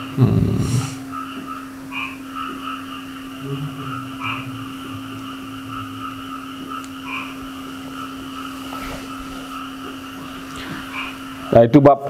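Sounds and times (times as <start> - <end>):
low hum: 0.0 - 11.6
frogs croaking: 0.0 - 12.0.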